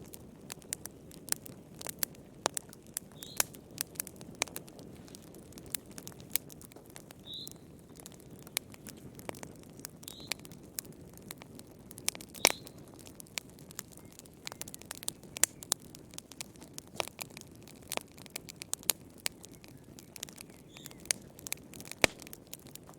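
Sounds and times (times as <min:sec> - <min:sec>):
low rumble of flame: 0:00.0 - 0:22.9
wood fire crackling: 0:00.0 - 0:22.9.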